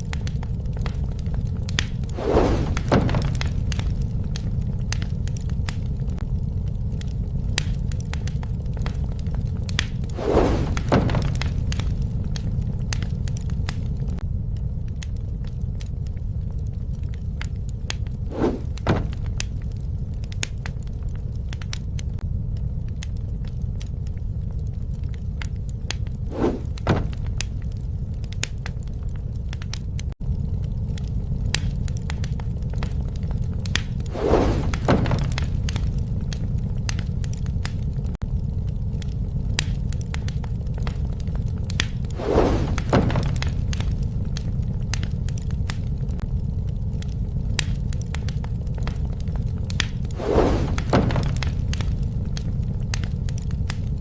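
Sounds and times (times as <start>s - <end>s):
flame puffs: 0.0s - 54.0s
low rumble of flames: 0.0s - 54.0s
wood fire crackling: 0.0s - 54.0s.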